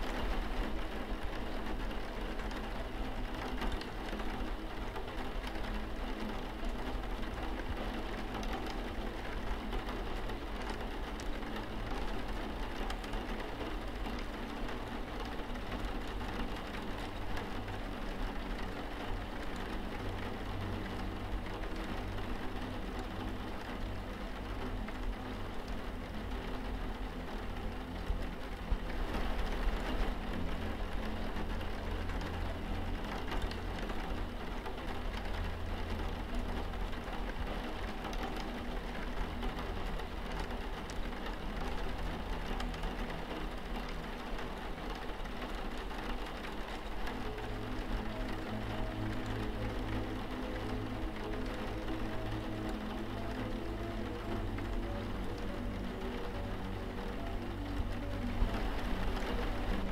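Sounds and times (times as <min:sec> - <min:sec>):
low steady hum: 0:00.0 - 0:59.9
rain on a window pane: 0:00.0 - 0:59.9.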